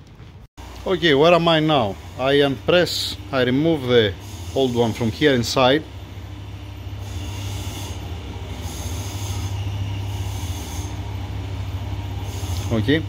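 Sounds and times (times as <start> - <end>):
low machine hum: 0.1 - 13.0.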